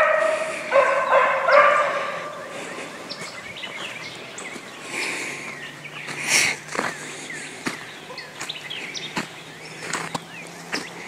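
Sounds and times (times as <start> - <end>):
bird chirps: 0.0 - 11.0.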